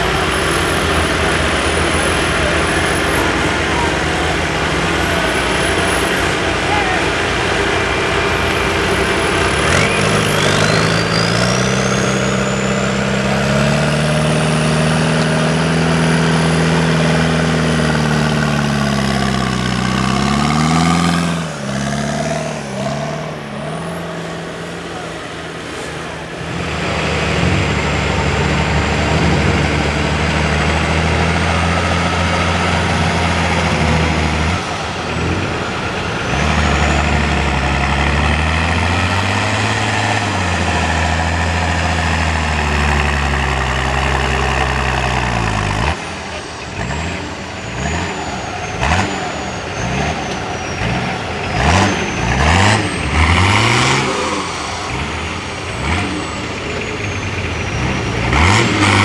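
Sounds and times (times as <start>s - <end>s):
truck engine revving in mud: 0.0s - 59.0s.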